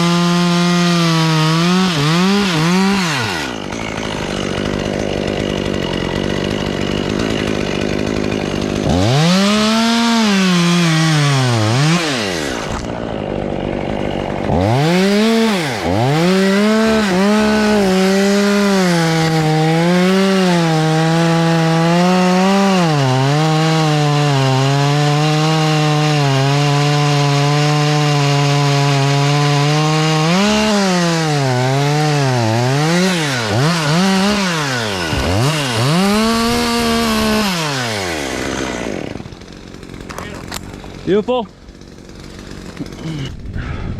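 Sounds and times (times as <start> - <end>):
chainsaw revving and cutting wood: 0.0 - 43.9.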